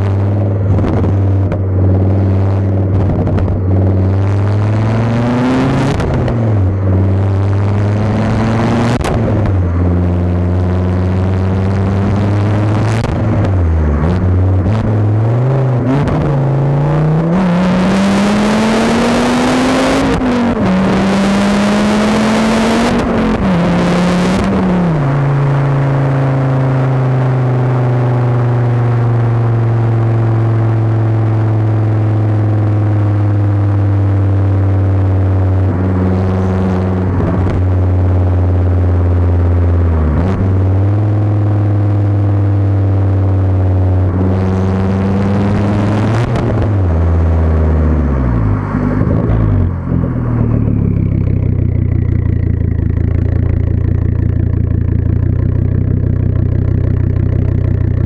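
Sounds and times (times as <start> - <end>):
car exhaust revving: 0.0 - 58.0.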